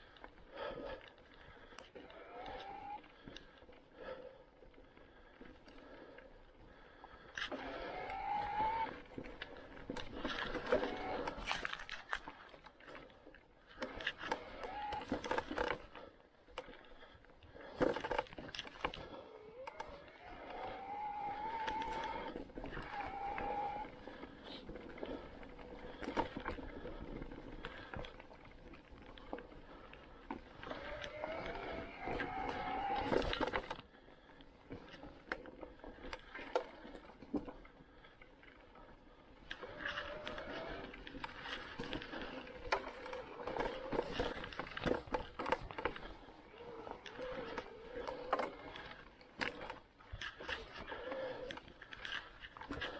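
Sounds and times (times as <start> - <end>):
tyres rolling on trail: 0.0 - 52.9
electric bike motor whining: 1.8 - 4.2, 7.3 - 12.0, 13.8 - 16.1, 17.6 - 52.9
bike rattling over bumps: 8.2 - 12.9, 13.8 - 52.9.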